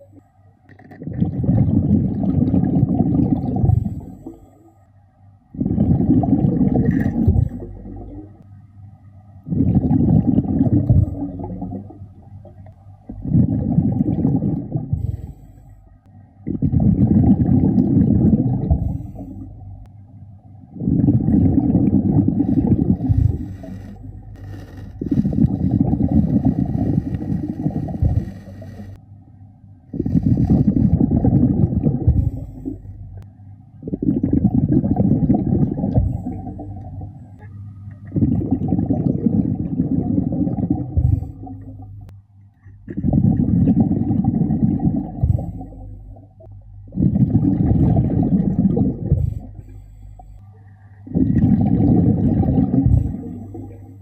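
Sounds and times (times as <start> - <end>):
regulator bubbles underwater: 0.0 - 4.8, 5.4 - 8.6, 9.4 - 20.0, 20.6 - 29.0, 29.9 - 54.0.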